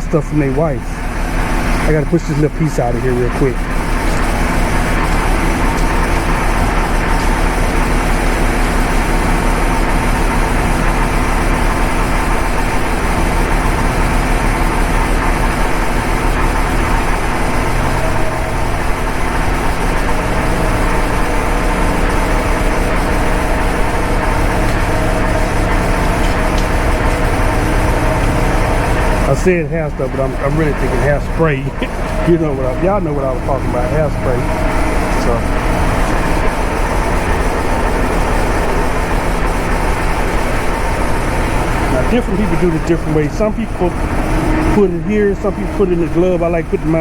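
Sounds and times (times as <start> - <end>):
loud mechanical drone: 0.0 - 47.0.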